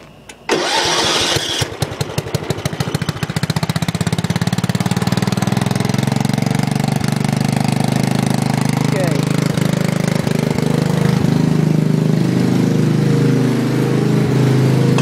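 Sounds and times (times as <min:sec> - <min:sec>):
riding tractor engine running: 0:00.0 - 0:15.0.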